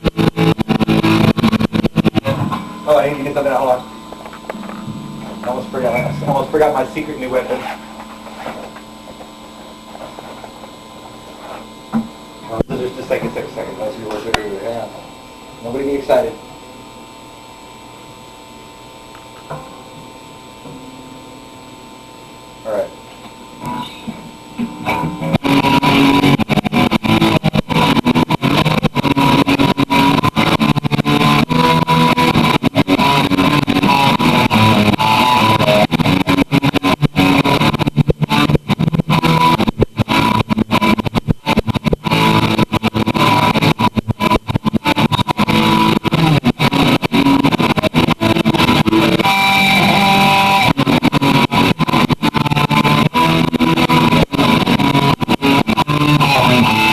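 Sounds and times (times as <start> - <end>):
guitar playing: 0.0 - 15.1, 19.4 - 21.6, 23.6 - 56.9.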